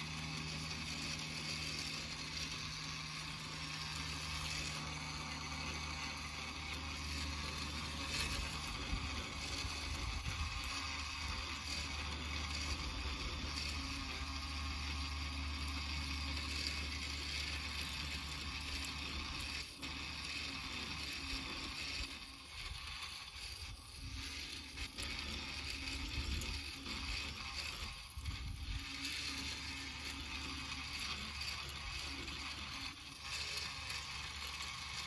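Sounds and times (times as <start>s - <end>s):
tiller churning soil: 0.0s - 35.0s.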